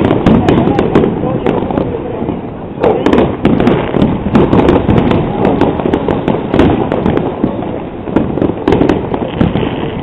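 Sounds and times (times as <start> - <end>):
fireworks and firecrackers banging: 0.0 - 10.0.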